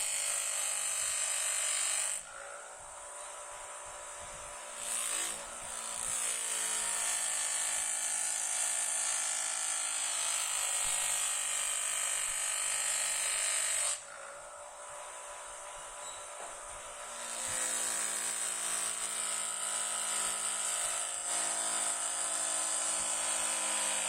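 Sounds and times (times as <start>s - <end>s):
electric power tool whining: 0.0s - 24.0s.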